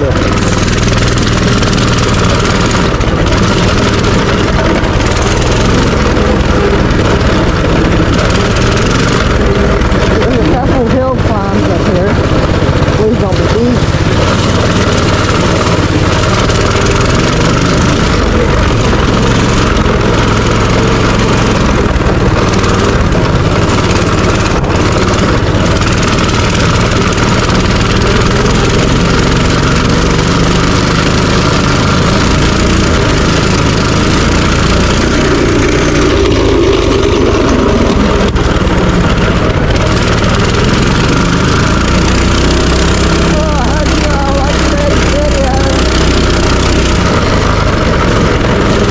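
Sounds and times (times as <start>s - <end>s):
small engine droning: 0.0s - 48.9s.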